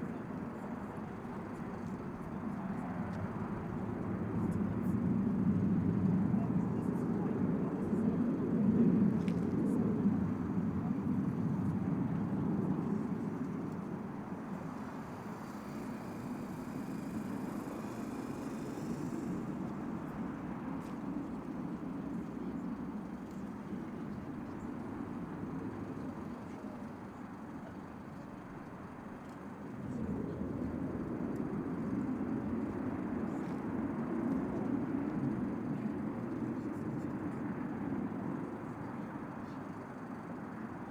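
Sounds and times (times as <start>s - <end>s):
low rumble of open-air ambience: 0.0s - 40.9s.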